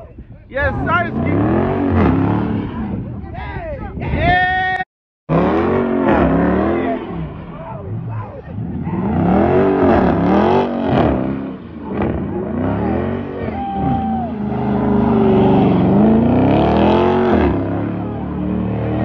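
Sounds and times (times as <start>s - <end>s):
car engine revving: 0.7s - 3.1s, 5.3s - 19.0s.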